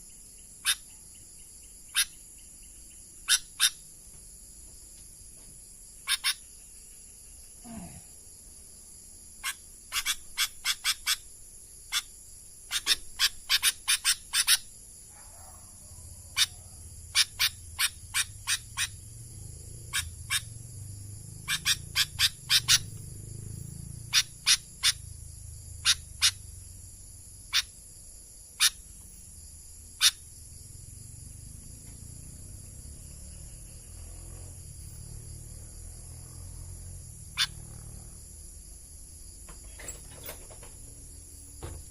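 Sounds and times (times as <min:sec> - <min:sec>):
high-pitched insect trill: 0:00.0 - 0:41.9.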